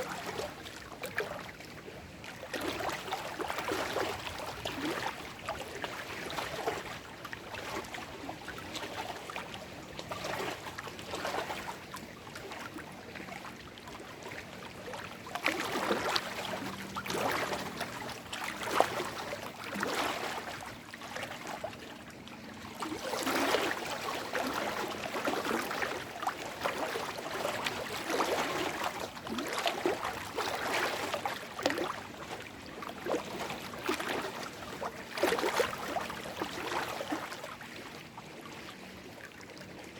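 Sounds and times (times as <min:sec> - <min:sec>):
waves lapping over rocks: 0:00.0 - 0:39.9.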